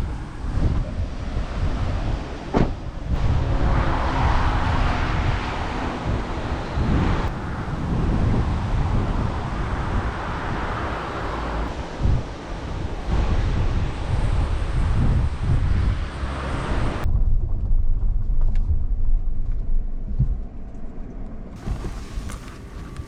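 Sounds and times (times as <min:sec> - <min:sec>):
wind buffeting microphone: 0:00.0 - 0:20.9, 0:21.5 - 0:23.0.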